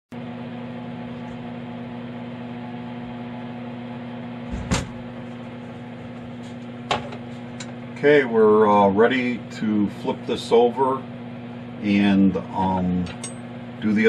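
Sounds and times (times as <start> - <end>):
electric machine hum: 0.2 - 14.0.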